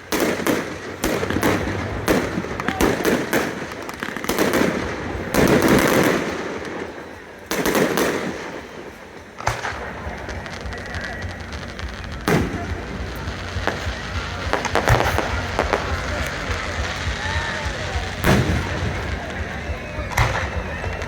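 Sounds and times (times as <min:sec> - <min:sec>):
fireworks crackling: 0:00.0 - 0:21.0
fireworks shells bursting: 0:00.0 - 0:21.0.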